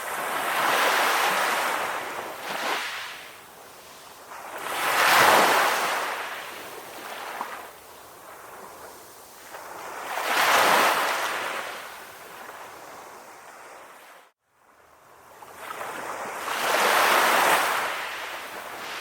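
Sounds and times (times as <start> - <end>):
sea waves washing on shore: 0.0 - 14.3, 15.1 - 19.0.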